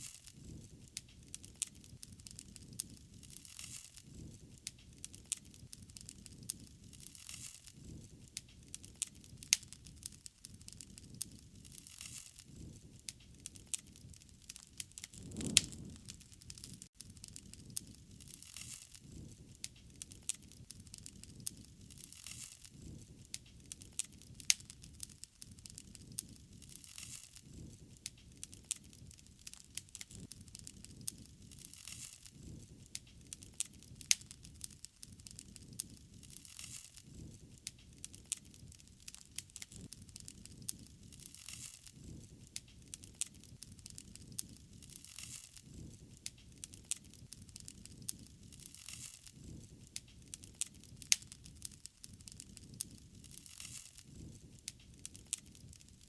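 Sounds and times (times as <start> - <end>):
low rumble of burning: 0.0 - 56.0
wood fire crackling and popping: 0.0 - 56.0.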